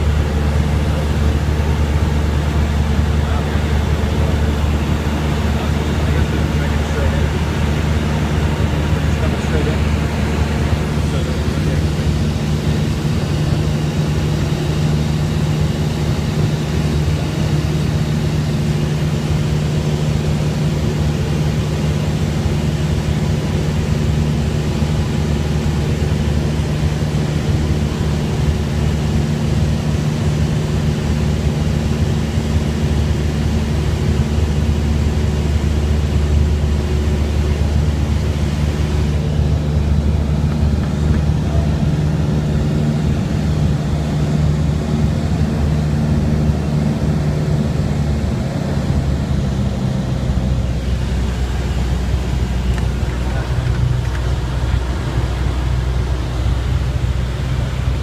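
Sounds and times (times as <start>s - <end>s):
light aircraft cabin drone: 0.0s - 58.0s.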